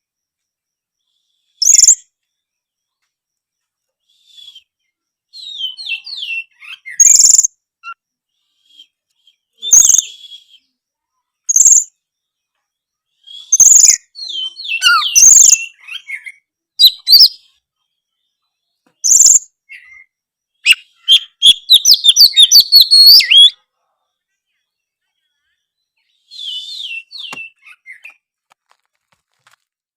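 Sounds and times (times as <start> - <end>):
bird singing: 0.0 - 28.3.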